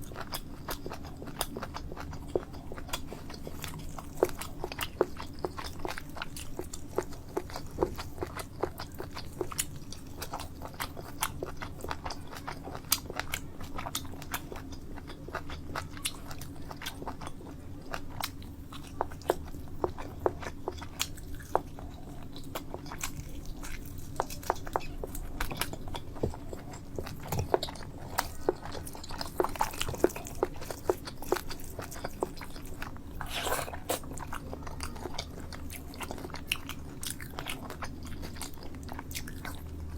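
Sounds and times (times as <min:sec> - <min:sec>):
person chewing food: 0:00.0 - 0:39.9
steady low hum: 0:00.0 - 0:39.9.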